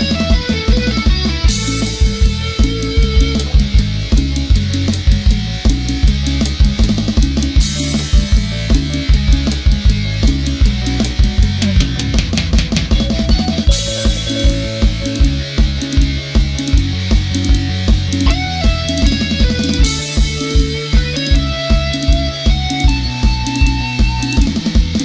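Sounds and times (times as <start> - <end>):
bass guitar: 0.0 - 25.0
drum kit beat: 0.0 - 25.0.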